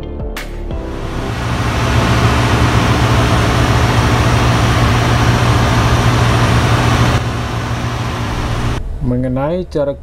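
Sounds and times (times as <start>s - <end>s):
engine room machinery hum: 0.8s - 10.0s.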